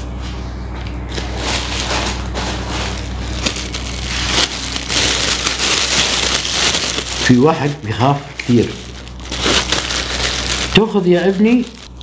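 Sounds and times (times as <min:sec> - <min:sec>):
steady low hum: 0:00.0 - 0:12.0
rustling and crackling handling: 0:01.1 - 0:12.0.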